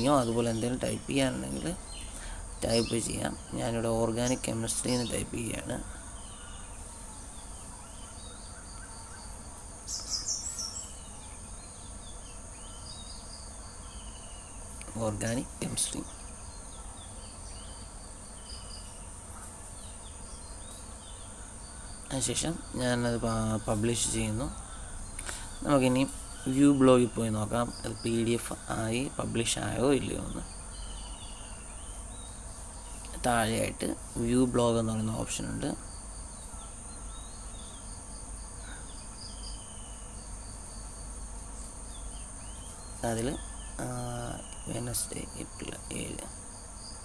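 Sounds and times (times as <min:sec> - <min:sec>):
crickets chirring: 0:00.0 - 0:47.0
insects droning: 0:00.0 - 0:47.0.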